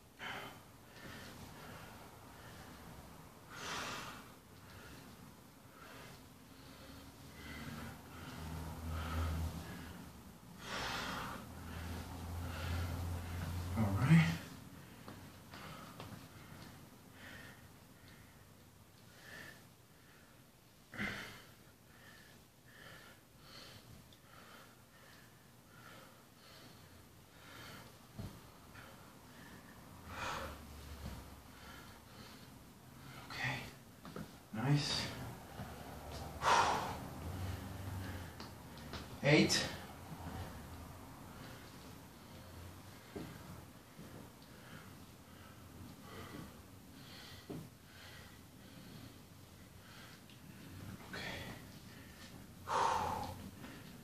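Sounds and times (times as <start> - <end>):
man breathing hard: 0.0 - 54.0.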